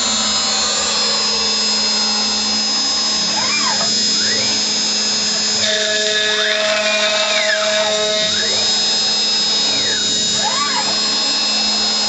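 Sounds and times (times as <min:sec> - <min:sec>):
router bit cutting wood: 0:00.0 - 0:12.0
spindle high whine: 0:00.0 - 0:12.0.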